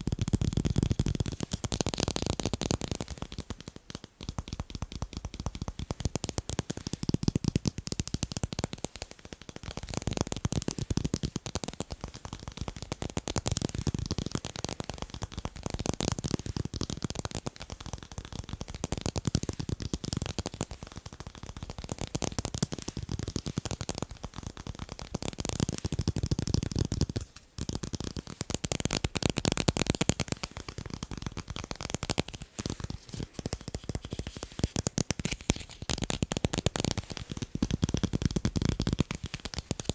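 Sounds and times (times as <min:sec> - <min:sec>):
fast tapping on tape: 0:00.0 - 0:39.9.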